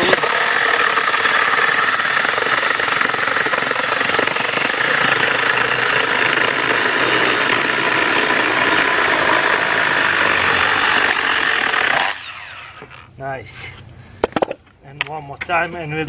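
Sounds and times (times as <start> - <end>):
mini chainsaw cutting wood: 0.0 - 13.1.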